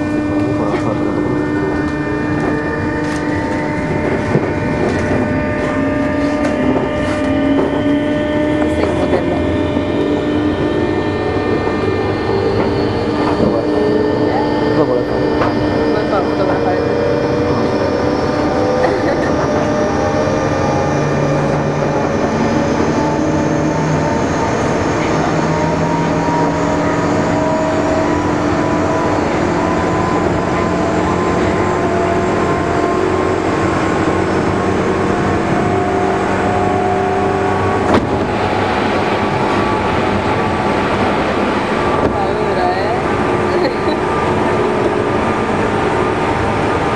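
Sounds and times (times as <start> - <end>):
electric train running noise: 0.0 - 46.9
passing train rush: 0.0 - 46.9
whining motor tones: 0.0 - 46.9.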